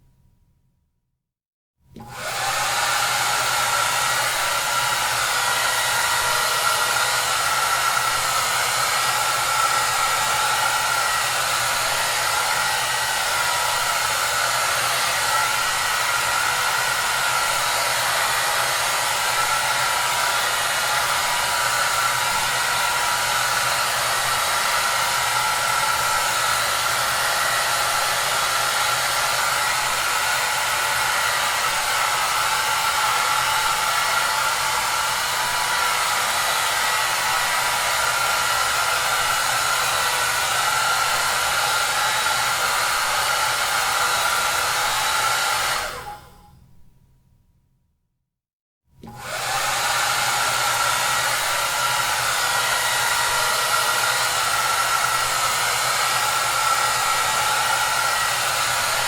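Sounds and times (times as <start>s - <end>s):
hair dryer blowing: 1.9s - 46.4s, 49.0s - 59.0s.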